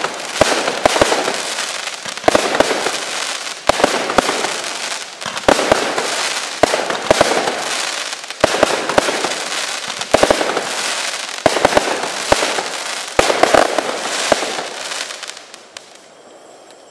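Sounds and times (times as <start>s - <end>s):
firework bangs: 0.0s - 16.1s.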